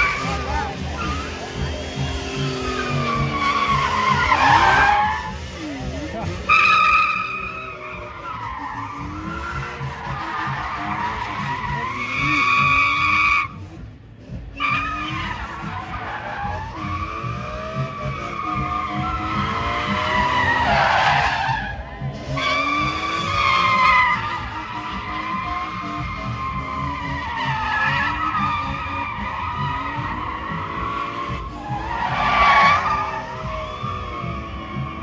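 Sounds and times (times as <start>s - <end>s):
car engine running: 0.0s - 35.0s
car tyres squealing: 0.0s - 35.0s.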